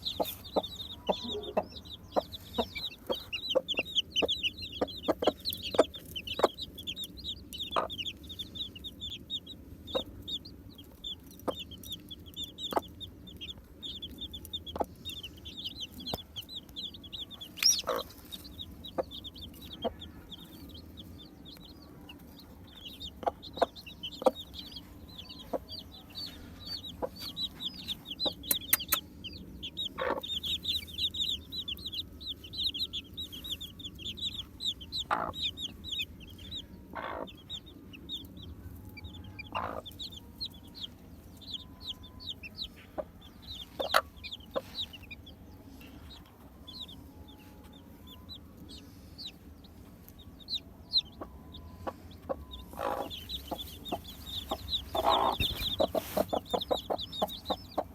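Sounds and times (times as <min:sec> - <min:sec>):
baby chicks peeping: 0:00.0 - 0:57.9.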